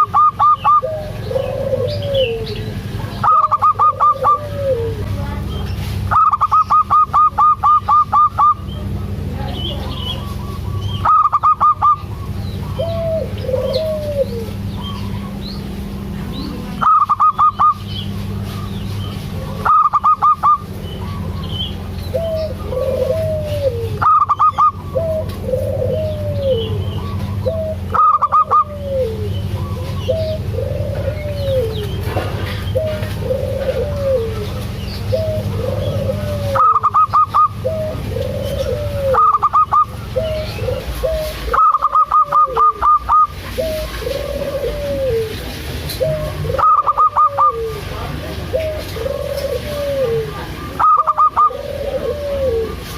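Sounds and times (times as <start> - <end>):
soft dove coos: 0.0 - 5.3, 5.9 - 52.9
dove calling staccato notes: 0.0 - 52.9
steady low hum: 0.0 - 52.9.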